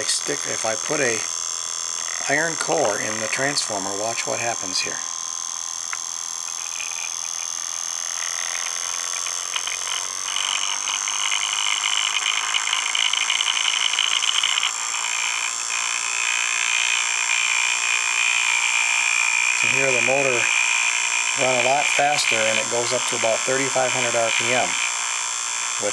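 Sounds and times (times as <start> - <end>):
reed-switch motor buzzing: 0.0 - 25.9.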